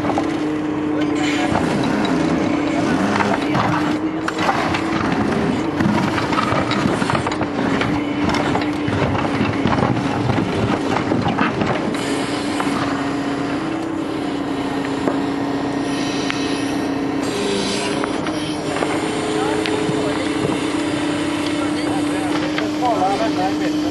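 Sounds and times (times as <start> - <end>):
excavator engine humming: 0.0 - 23.9.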